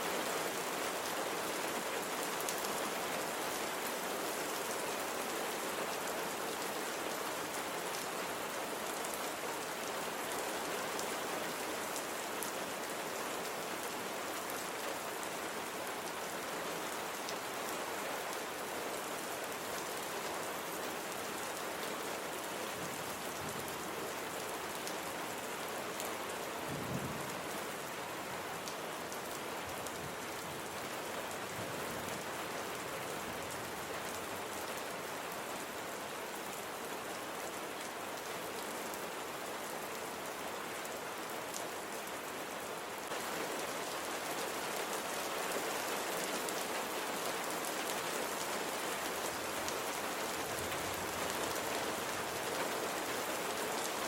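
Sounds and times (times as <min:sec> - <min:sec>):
rain pattering: 0:00.1 - 0:54.0.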